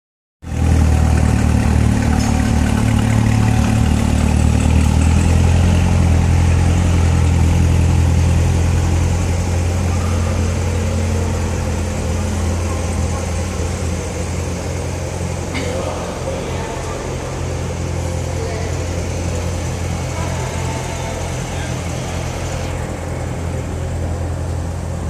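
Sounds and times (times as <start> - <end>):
car engine idling: 0.4 - 25.0.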